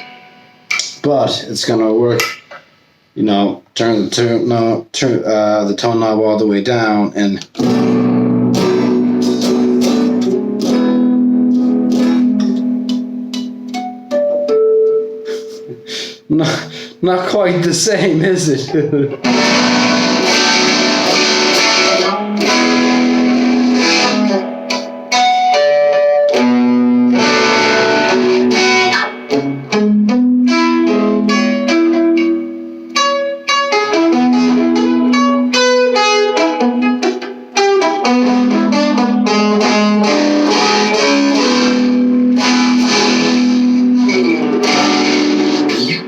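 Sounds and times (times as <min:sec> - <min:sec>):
electric guitar chords and single notes: 0:00.0 - 0:01.1, 0:07.4 - 0:46.0.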